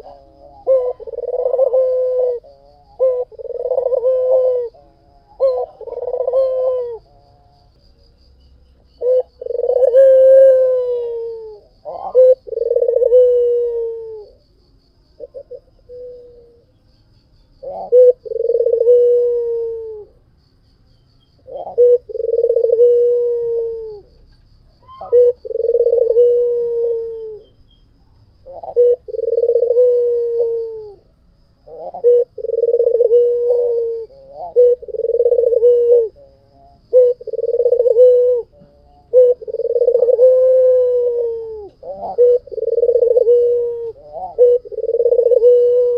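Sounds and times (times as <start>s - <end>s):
dove cooing: 0.0s - 7.7s, 9.0s - 14.5s, 15.2s - 16.6s, 17.6s - 20.2s, 21.4s - 24.2s, 24.8s - 27.6s, 28.3s - 45.9s.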